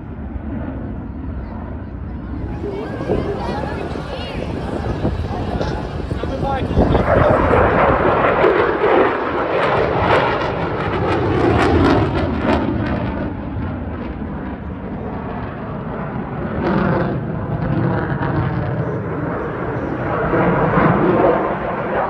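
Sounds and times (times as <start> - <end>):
jet flying past: 2.3 - 22.0.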